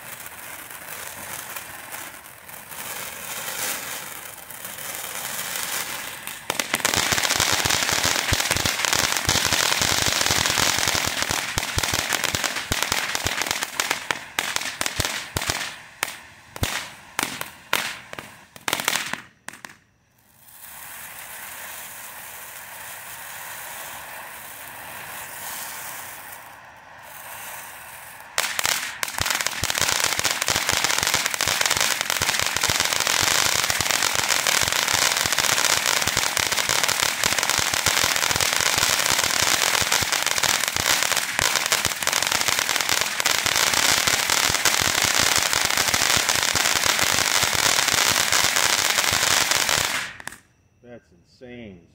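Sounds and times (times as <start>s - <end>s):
firework fountain crackling: 0.0s - 50.4s
firework hissing spray: 0.0s - 50.4s.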